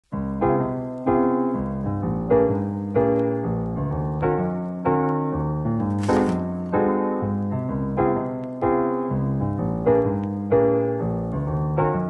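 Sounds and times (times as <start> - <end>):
soft piano chords: 0.1 - 12.0.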